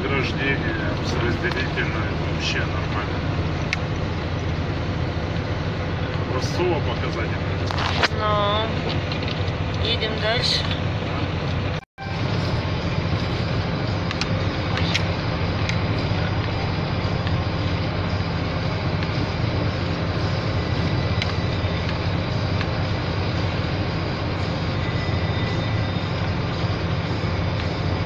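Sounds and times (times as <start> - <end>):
van engine and road noise: 0.0 - 28.0.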